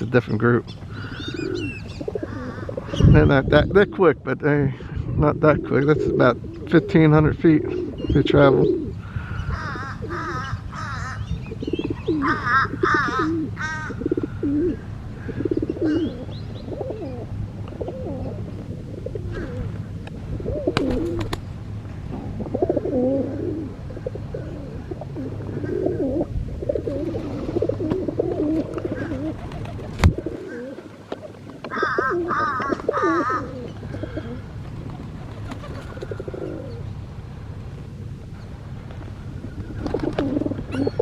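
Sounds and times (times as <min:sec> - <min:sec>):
doves cooing: 0:00.0 - 0:04.2, 0:04.8 - 0:37.0, 0:38.3 - 0:41.0
birds chirping and trilling: 0:00.0 - 0:30.9, 0:31.6 - 0:37.1, 0:38.3 - 0:41.0
steady low hum: 0:00.0 - 0:41.0.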